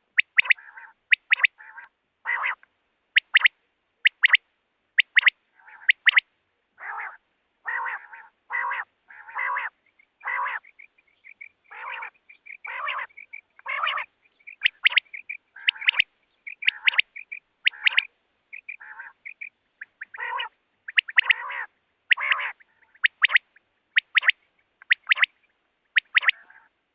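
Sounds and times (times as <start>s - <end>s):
quail calling: 0.0s - 4.4s, 5.0s - 26.8s.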